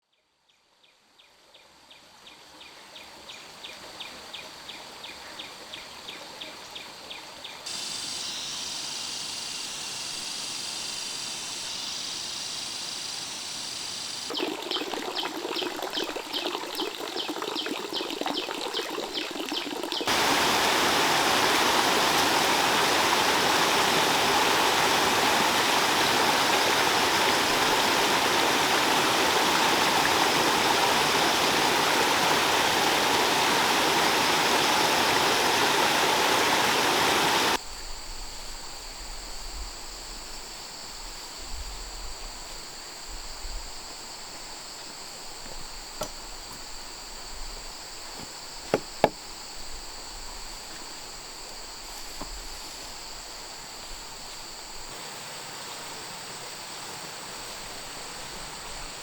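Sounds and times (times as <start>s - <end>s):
flowing stream water: 5.6s - 37.6s, 43.8s - 59.0s.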